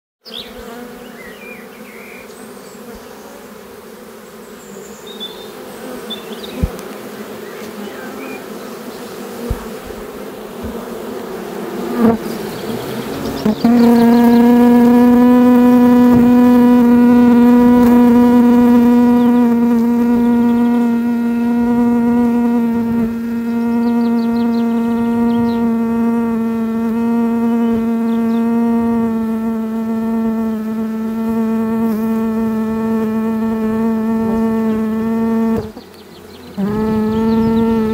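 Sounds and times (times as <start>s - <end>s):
bees buzzing: 0.3s - 37.9s.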